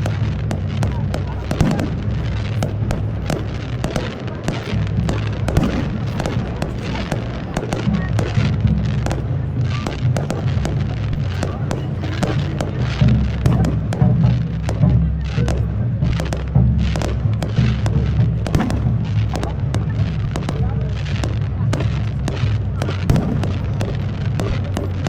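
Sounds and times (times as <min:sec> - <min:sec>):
fireworks bursts and crackles: 0:00.0 - 0:25.0
low rumble of explosions: 0:00.0 - 0:25.0.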